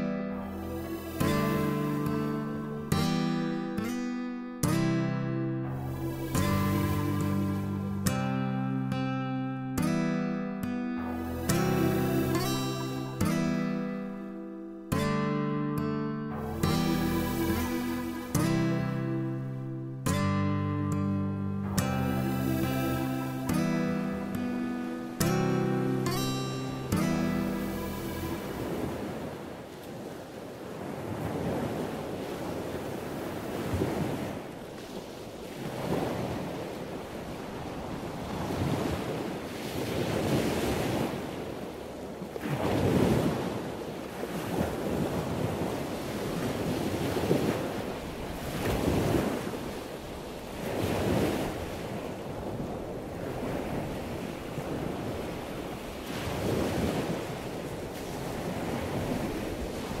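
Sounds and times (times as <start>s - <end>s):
ocean waves breaking: 0.0s - 15.6s, 16.3s - 60.0s.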